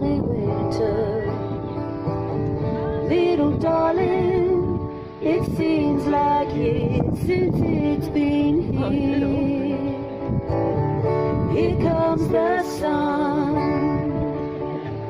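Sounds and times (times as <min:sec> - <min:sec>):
woman singing: 0:00.0 - 0:01.6, 0:02.8 - 0:10.2, 0:11.3 - 0:14.4
instrumental accompaniment: 0:00.0 - 0:15.0.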